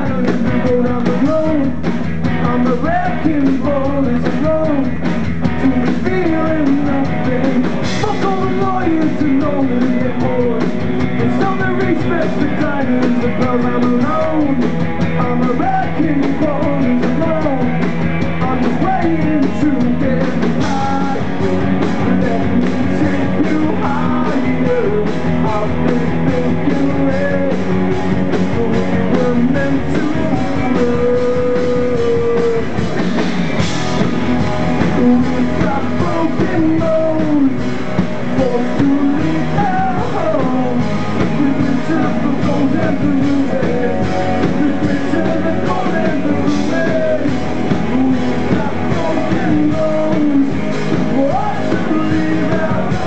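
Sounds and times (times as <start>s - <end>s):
man singing: 0.0s - 53.0s
rock band playing live: 0.0s - 53.0s.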